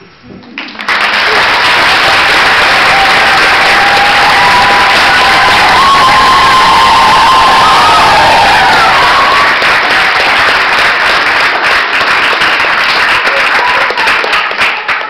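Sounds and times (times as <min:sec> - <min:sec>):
audience applause and cheering: 0:00.7 - 0:15.0.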